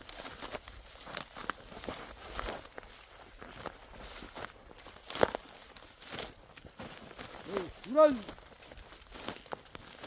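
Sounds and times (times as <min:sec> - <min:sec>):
dry wheat stalks crackling: 0:00.0 - 0:10.0.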